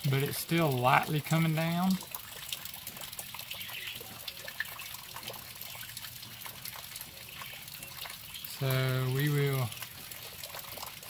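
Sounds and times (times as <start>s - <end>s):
light rain falling: 0.0s - 11.0s
water drips: 0.0s - 11.0s.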